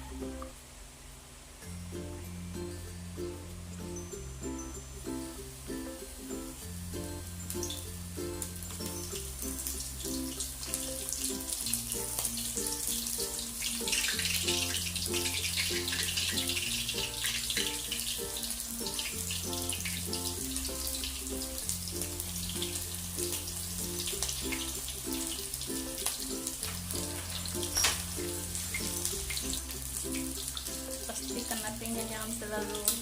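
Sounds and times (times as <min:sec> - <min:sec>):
background music with bass line: 0:01.6 - 0:33.0
prawns sizzling in hot oil: 0:03.8 - 0:33.0.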